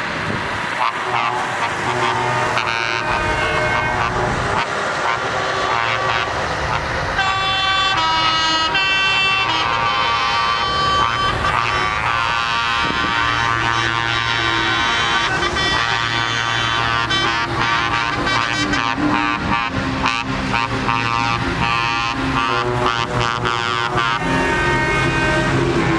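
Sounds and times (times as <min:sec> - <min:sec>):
truck engines running: 0:00.0 - 0:25.9
truck air horns: 0:00.7 - 0:25.9.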